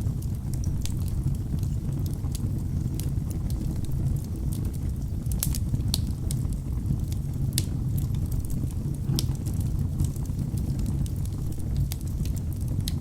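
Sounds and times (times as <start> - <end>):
fire flames rumbling: 0.0 - 13.0
logs crackling and popping: 0.1 - 13.0.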